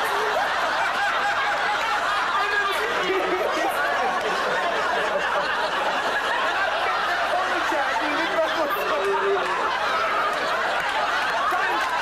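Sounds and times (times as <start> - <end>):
audience laughing: 0.0 - 12.0
chatter: 0.0 - 12.0.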